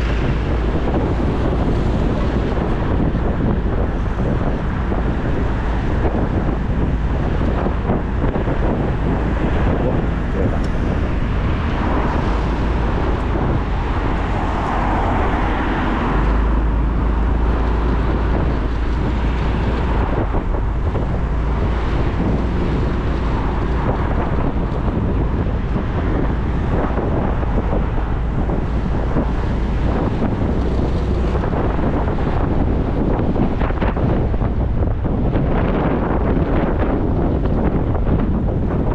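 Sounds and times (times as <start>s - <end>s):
motorcycle riding on road: 0.0s - 38.9s
wind buffeting microphone: 0.0s - 38.9s.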